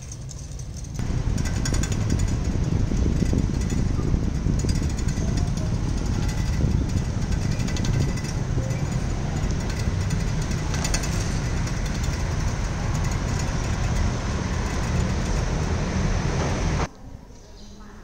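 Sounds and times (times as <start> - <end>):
bicycle rattling over paving: 0.0 - 16.9
wind on microphone: 1.0 - 16.9.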